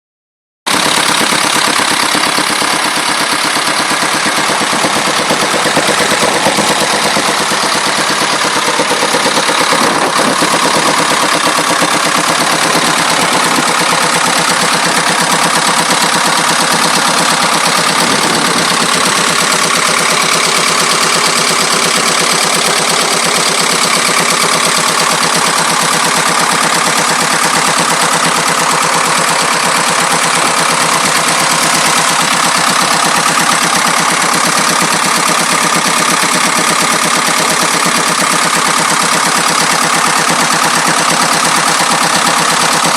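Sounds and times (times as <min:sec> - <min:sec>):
diesel engine idling with rattle: 0:00.7 - 0:42.9.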